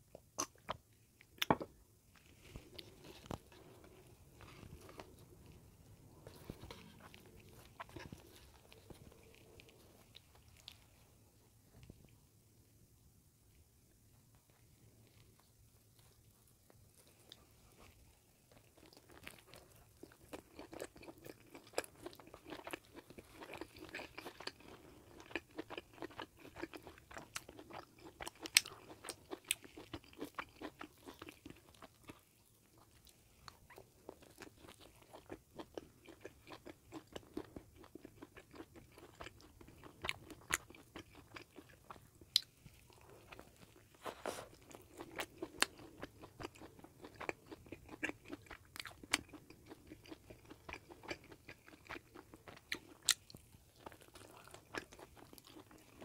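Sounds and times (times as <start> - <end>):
close crunchy chewing: 2.1 - 11.2, 14.4 - 56.0.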